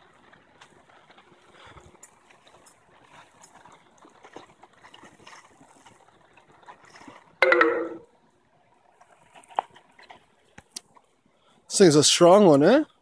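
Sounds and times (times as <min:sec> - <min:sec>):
faint river water running: 0:00.0 - 0:13.0.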